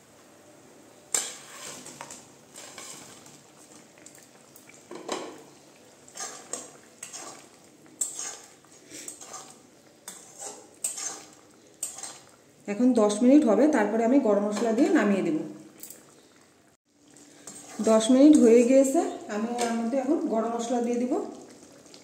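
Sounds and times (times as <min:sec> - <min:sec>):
spatula stirring and scraping pan: 0:01.0 - 0:13.2, 0:14.3 - 0:15.0, 0:17.1 - 0:22.0.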